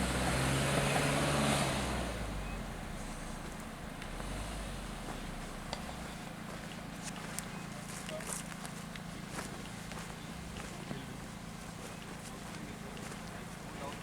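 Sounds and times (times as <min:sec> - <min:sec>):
off-road vehicle engine humming: 0:00.0 - 0:14.0.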